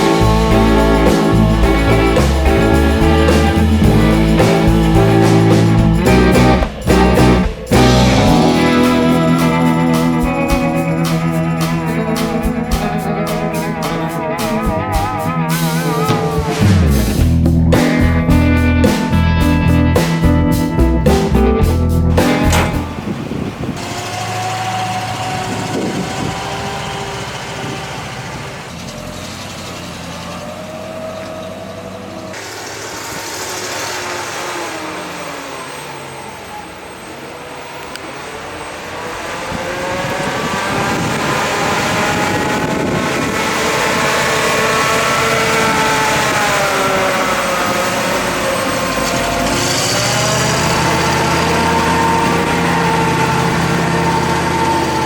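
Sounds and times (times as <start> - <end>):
vehicle engine revving: 0.0 - 55.0.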